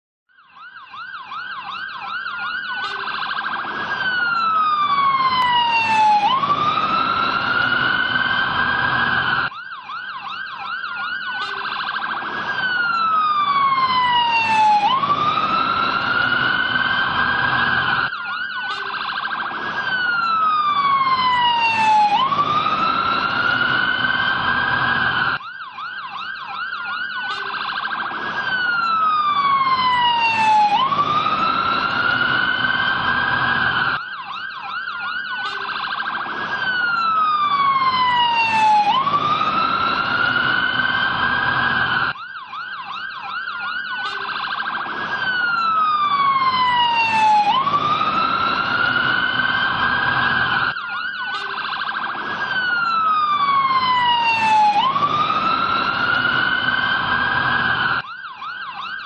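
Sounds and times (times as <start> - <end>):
fire engine siren wailing: 0.3 - 59.0.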